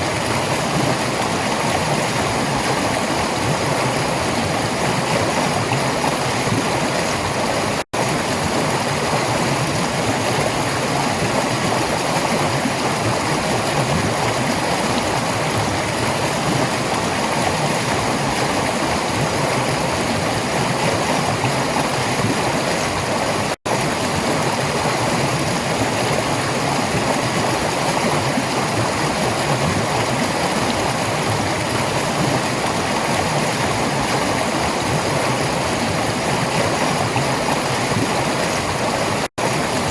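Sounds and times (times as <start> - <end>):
fast-running stream gurgling: 0.0 - 39.9.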